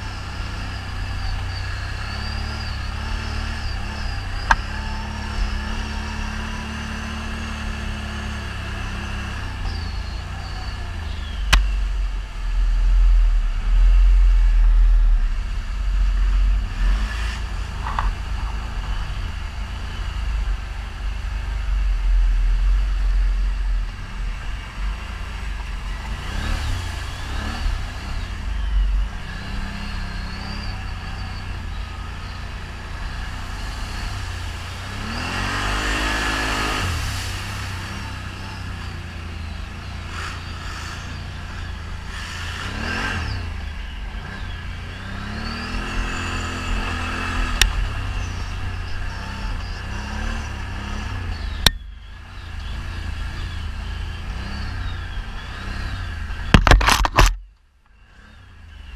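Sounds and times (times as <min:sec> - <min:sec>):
atv engines revving: 0:00.0 - 0:57.4, 0:58.0 - 0:58.9
low rumble: 0:00.0 - 0:58.2.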